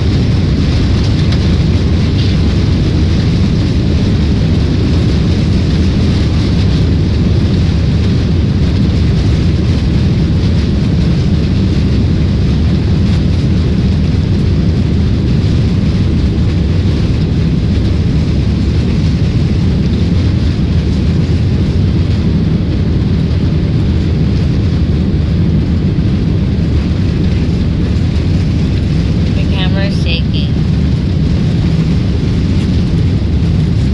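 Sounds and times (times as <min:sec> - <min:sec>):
jet airliner cabin noise: 0:00.0 - 0:33.9.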